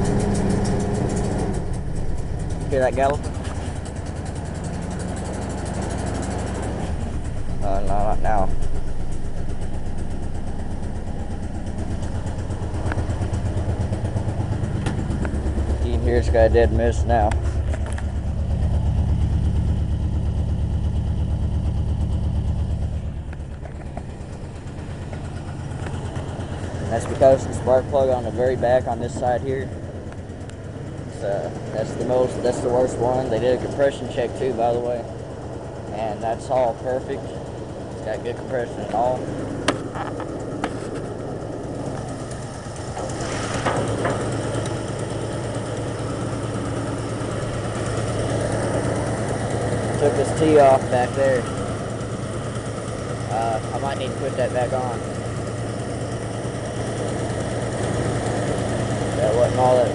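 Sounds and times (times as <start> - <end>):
engine idling with a misfire: 0.0 - 59.9.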